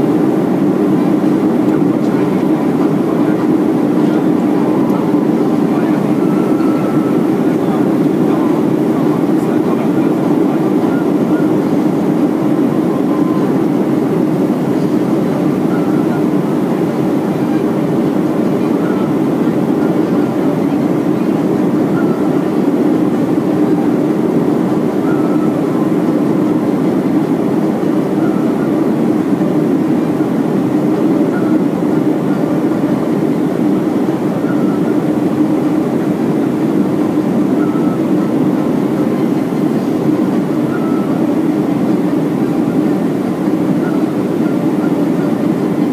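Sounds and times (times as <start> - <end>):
airliner cabin noise in flight: 0.0 - 45.9.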